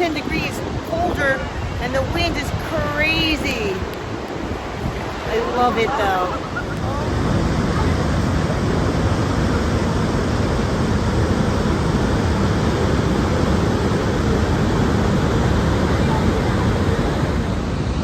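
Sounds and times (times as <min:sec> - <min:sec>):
waterfall roaring: 0:00.0 - 0:18.0
wind rumbling on microphone: 0:00.0 - 0:18.0.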